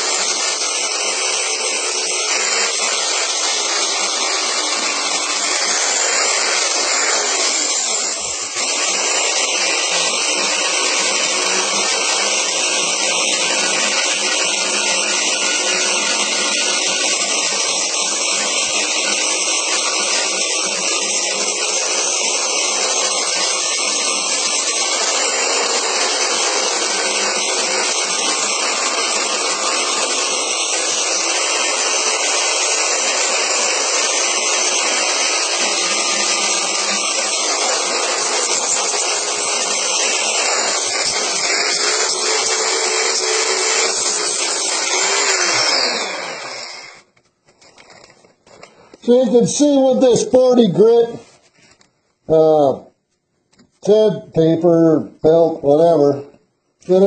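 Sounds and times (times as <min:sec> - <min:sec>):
belt sander sanding wood: 0:00.0 - 0:46.8.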